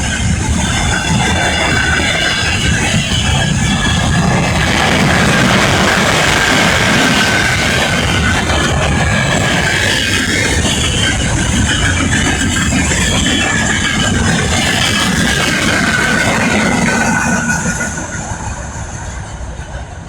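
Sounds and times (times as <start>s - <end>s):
high wavering whine: 0.0s - 20.0s
train wheels rumbling on rail: 0.0s - 20.0s.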